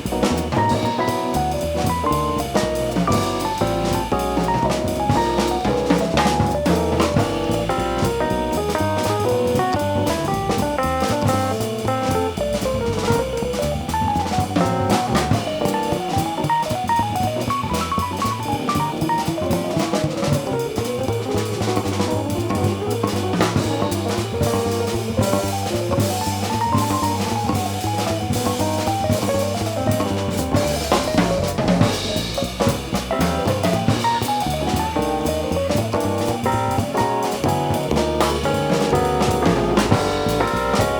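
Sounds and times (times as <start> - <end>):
drum kit: 0.0 - 40.9
live jazz combo playing: 0.0 - 40.9
walking bass: 0.0 - 40.9.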